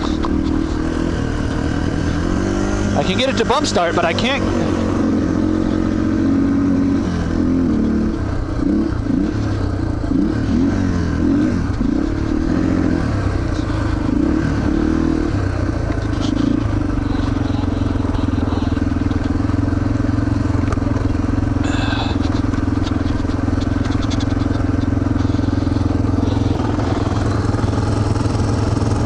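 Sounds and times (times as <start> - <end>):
motorcycle engine revving unevenly: 0.0 - 29.0.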